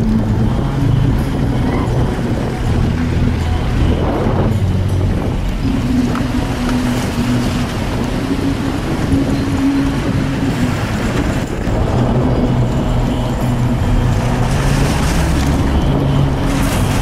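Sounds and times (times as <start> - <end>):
vehicle engine under load: 0.0 - 17.0
wind and road noise: 0.0 - 17.0.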